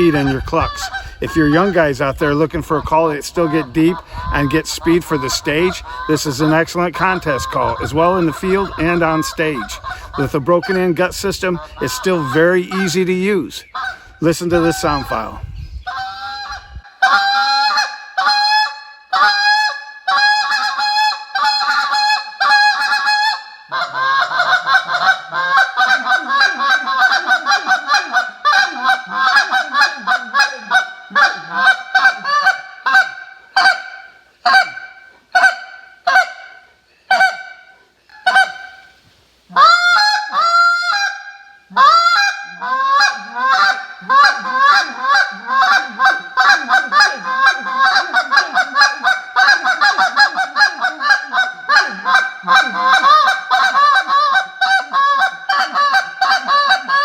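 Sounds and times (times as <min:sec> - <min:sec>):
goose call honks and clucks: 0:00.0 - 0:57.0.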